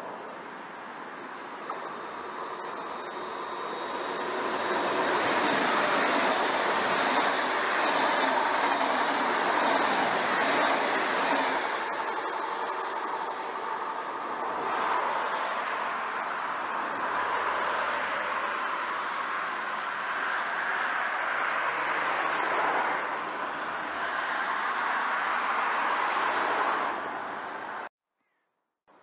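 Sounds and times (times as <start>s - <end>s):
train wheels rushing on rails: 0.8s - 27.9s.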